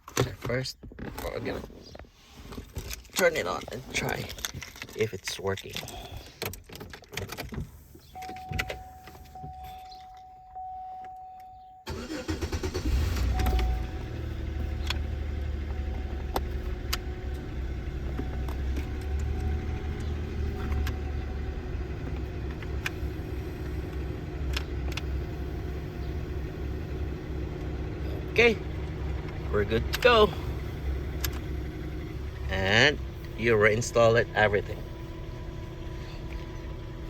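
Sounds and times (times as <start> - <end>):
car engine starting and idling: 0.1 - 37.0.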